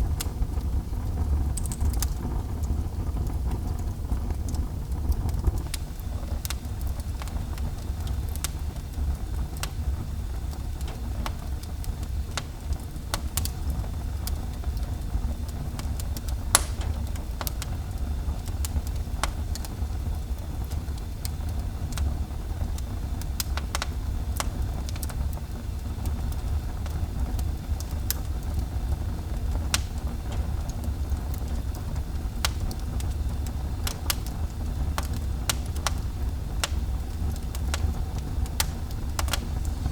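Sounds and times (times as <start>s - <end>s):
fire crackling and popping: 0.0s - 39.9s
low fire rumble: 0.0s - 39.9s.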